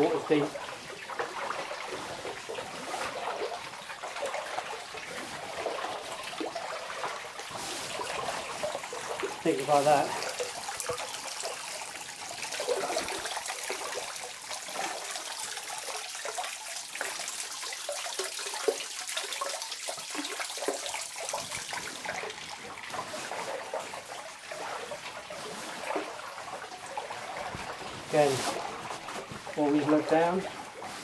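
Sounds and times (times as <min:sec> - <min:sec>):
water splashing and trickling: 0:00.0 - 0:31.0.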